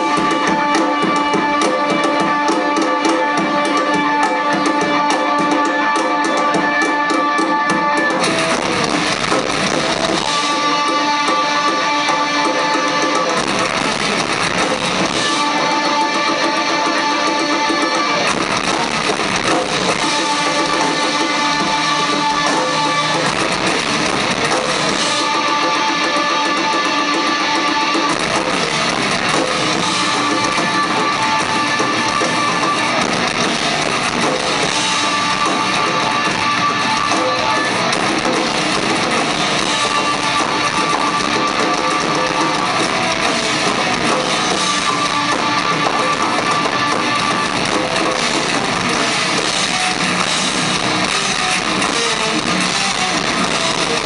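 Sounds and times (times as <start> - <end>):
distorted electric guitars: 0.0 - 54.0
drums: 0.0 - 54.0.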